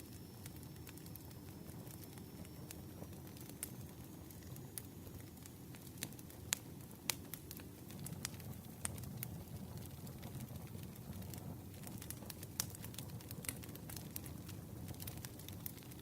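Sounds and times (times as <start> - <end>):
burning wood crackling and popping: 0.0 - 16.0
campfire flames rumbling: 0.0 - 16.0.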